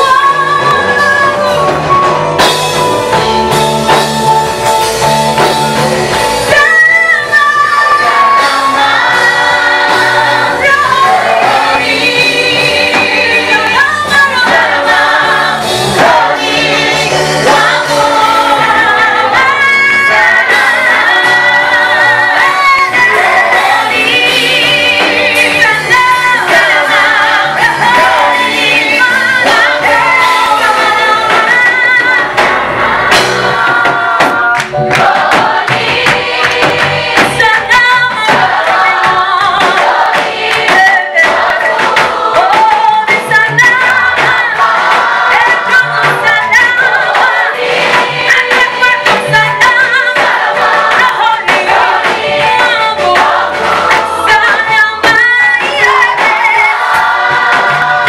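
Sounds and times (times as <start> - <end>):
group singing worship song: 0.0 - 58.0
instrumental backing with bass: 0.0 - 58.0.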